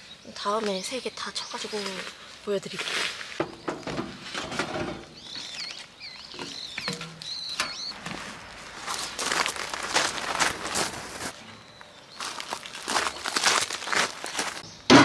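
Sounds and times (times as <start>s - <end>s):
footsteps on gravel: 0.6s - 4.5s, 5.2s - 6.8s, 7.9s - 14.7s.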